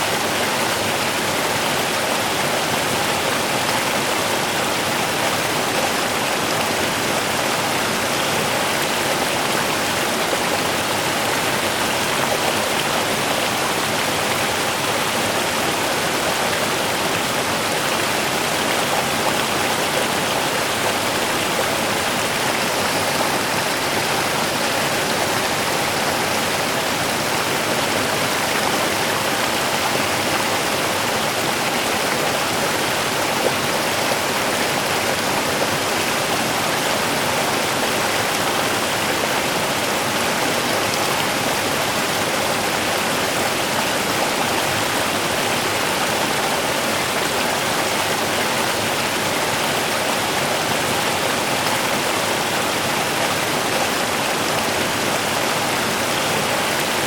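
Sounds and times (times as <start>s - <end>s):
river running over stones: 0.0s - 57.0s.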